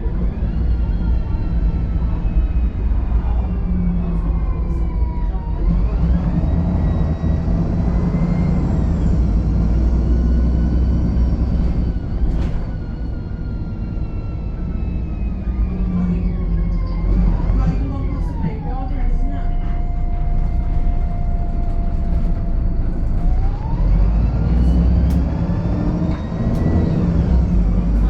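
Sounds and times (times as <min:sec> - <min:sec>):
bus engine rumble: 0:00.0 - 0:28.0
bus whining tones: 0:00.0 - 0:28.0.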